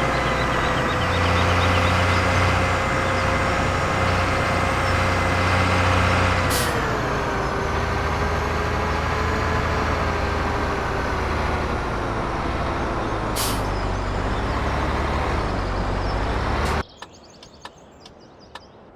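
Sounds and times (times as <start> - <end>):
heavy vehicle engine running: 0.0 - 16.8.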